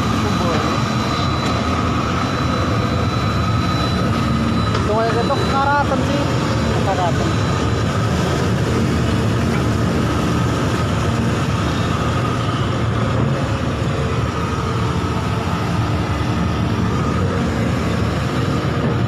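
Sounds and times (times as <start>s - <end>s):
diesel engine rumbling: 0.0s - 19.0s
faint steady whine: 0.0s - 19.0s.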